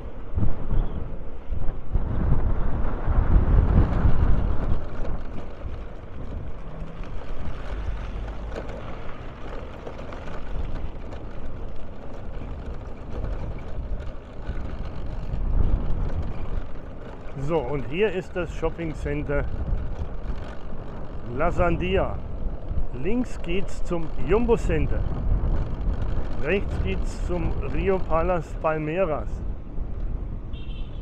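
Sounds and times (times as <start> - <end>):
vehicle road and engine rumble: 0.0 - 31.0.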